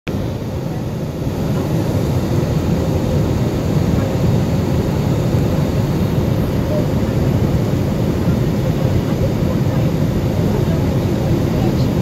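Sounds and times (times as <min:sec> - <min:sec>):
airliner cabin engine and airflow noise: 0:00.1 - 0:12.0.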